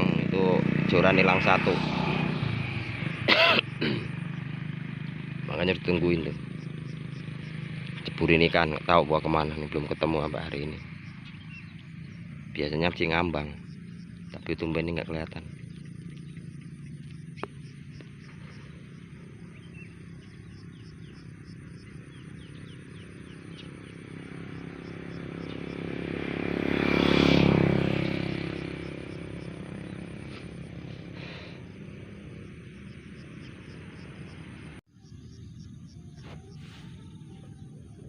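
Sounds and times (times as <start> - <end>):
motorbike passing by: 0.0 - 38.0.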